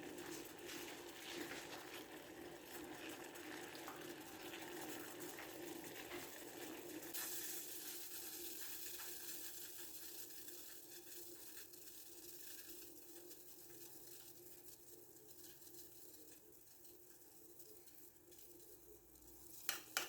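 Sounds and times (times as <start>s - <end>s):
water sizzling in a pan: 0.0s - 20.0s.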